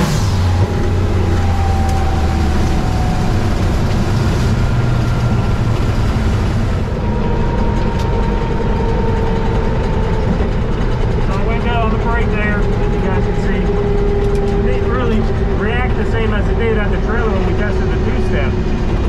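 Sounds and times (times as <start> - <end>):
race car engine running: 0.0 - 19.0.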